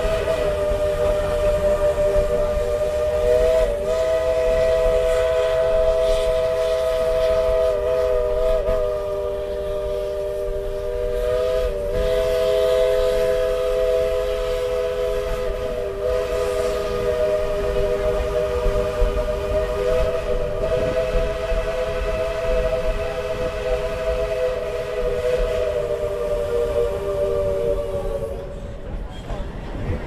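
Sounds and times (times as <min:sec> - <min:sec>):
steam locomotive whistle blast: 0:00.0 - 0:28.8
train cars rumbling on track: 0:00.0 - 0:30.0.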